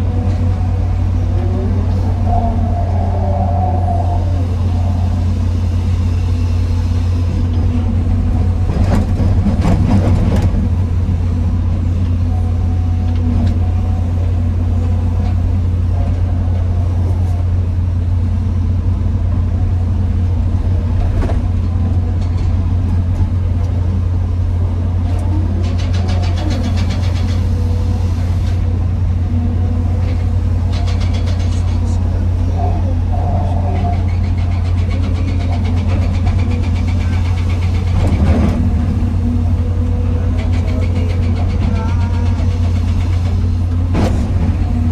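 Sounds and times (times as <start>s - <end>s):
diesel engine droning: 0.0s - 44.9s.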